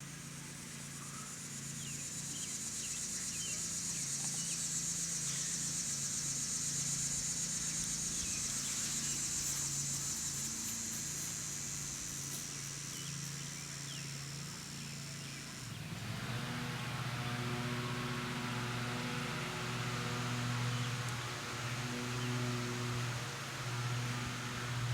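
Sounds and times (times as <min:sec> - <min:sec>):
insects buzzing in chorus: 0:00.0 - 0:24.9
low engine hum: 0:00.5 - 0:24.9.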